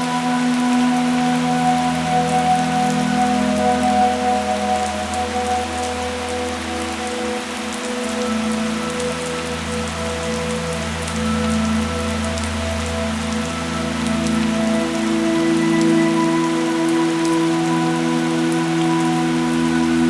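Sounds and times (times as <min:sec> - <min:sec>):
soft sustained drone tones: 0:00.0 - 0:20.0
steady rain falling: 0:00.0 - 0:20.0.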